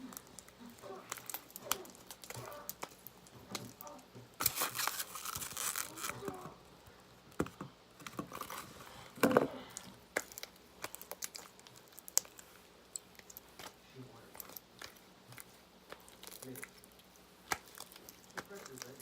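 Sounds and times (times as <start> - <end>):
crinkling handling noises: 0.0 - 19.0.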